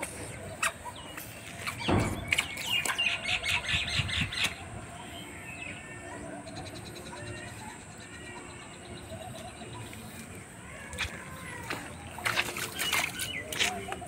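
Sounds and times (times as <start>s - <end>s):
birds chattering: 0.0s - 14.0s.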